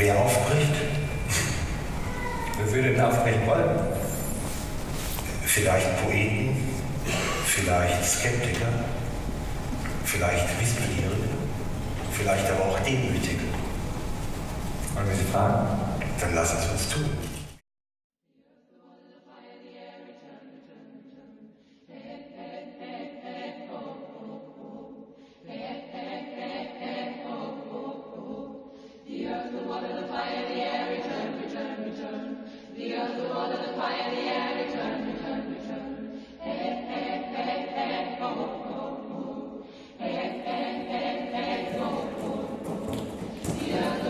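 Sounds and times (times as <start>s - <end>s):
choir singing held chords: 0.0s - 14.2s, 18.7s - 44.0s.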